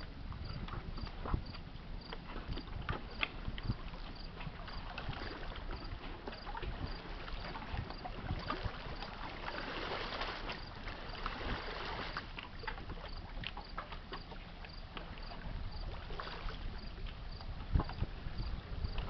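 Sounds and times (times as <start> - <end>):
wind noise: 0.0 - 12.2, 15.0 - 19.0.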